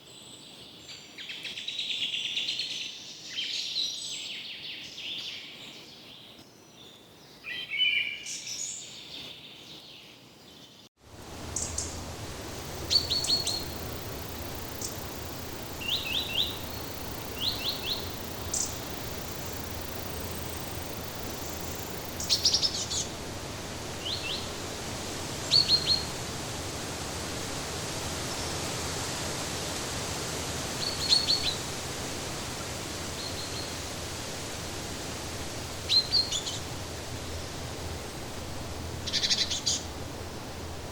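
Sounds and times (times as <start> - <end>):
steady background hiss: 0.0 - 40.9
wild birds chirping: 3.2 - 26.9, 30.6 - 40.6.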